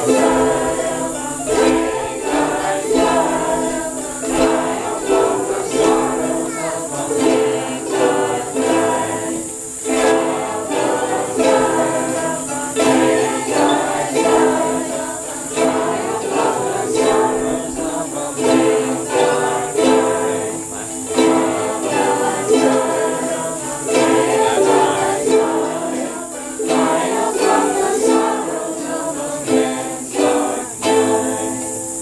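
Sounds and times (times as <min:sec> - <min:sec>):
ukuleles strumming chords: 0:00.0 - 0:32.0
voices singing along: 0:00.0 - 0:32.0.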